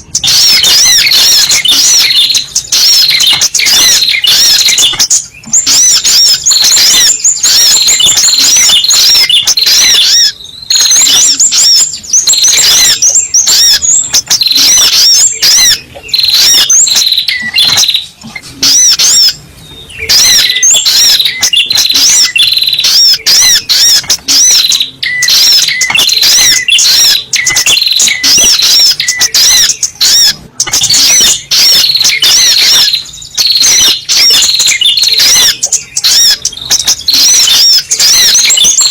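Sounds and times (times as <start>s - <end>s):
bird sharp high chirps: 0.0s - 38.9s.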